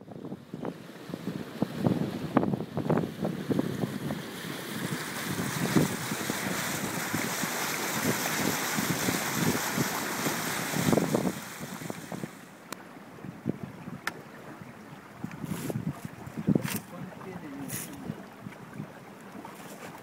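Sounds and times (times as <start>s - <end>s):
wind gusting on microphone: 0.0s - 12.5s, 13.2s - 19.0s
bow wave rushing along hull: 0.0s - 20.0s.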